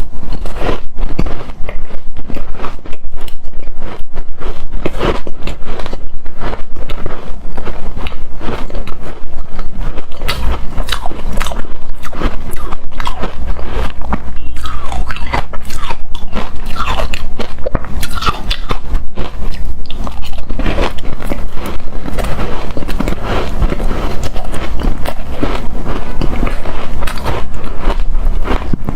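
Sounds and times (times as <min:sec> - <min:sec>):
crunching frozen shaved ice: 0:00.0 - 0:28.9.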